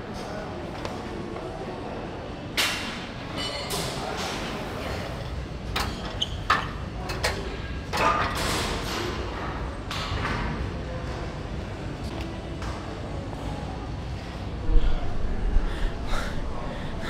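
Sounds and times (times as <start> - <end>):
gym hall hum: 0.0 - 17.0.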